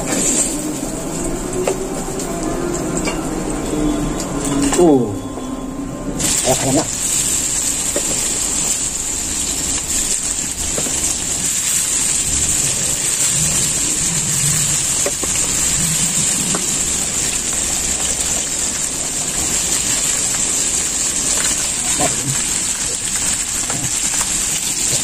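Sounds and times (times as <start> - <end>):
chicken frying in hot oil: 0.0 - 4.7, 6.2 - 25.0.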